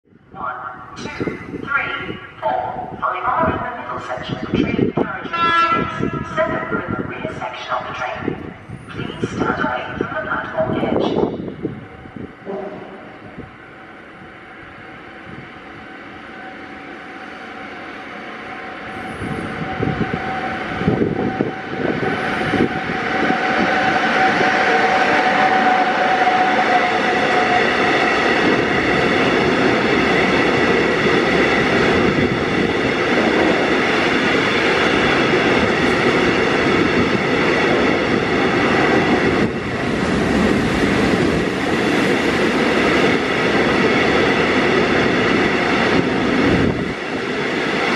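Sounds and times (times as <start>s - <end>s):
electric locomotive passing: 0.2s - 47.9s.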